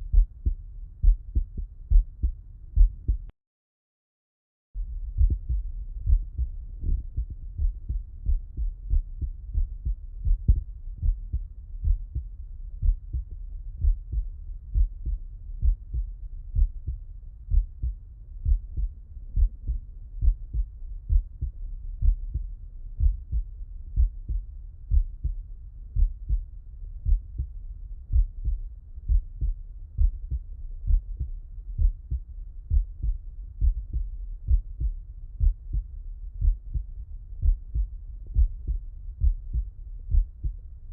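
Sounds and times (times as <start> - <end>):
heartbeat thumps: 0.0 - 3.3, 4.8 - 40.7.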